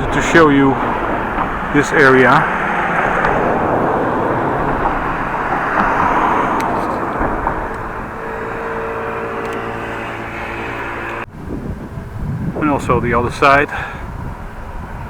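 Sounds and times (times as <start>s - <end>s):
engine hum: 0.0s - 15.0s
road traffic passing: 0.0s - 15.0s.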